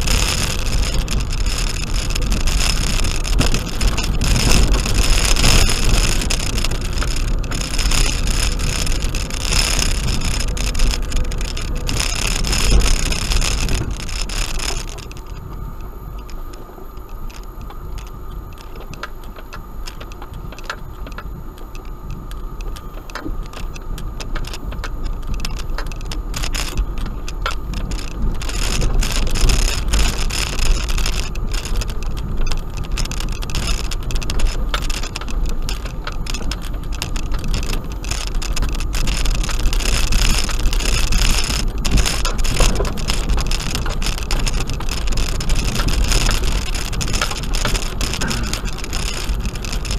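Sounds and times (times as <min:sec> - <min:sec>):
stones and fittings rattling: 0:00.0 - 0:15.4, 0:24.3 - 0:49.9
engine and tyre rumble: 0:00.0 - 0:49.9.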